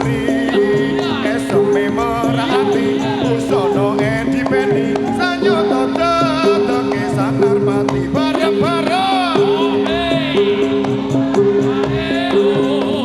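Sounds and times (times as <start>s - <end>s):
folk music with wavering melody: 0.0s - 13.0s.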